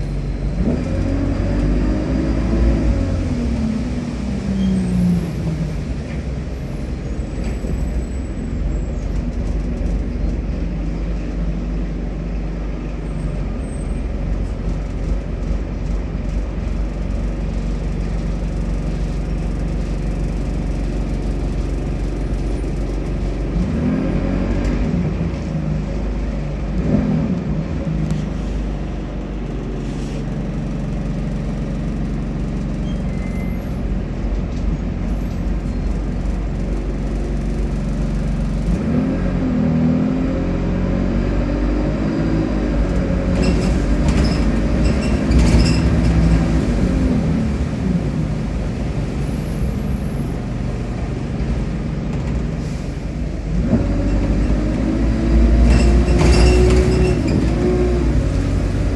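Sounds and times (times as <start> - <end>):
bus engine rumbling: 0.0 - 58.9.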